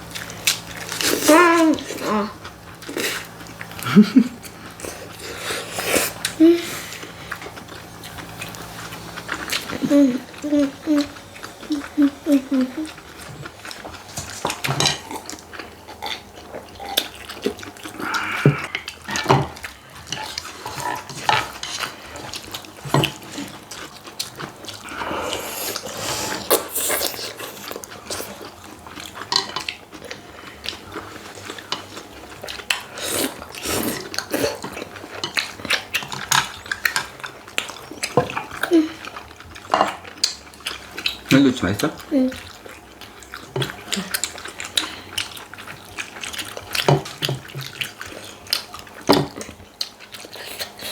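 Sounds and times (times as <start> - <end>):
chewing and mouth noises: 0.0 - 50.9.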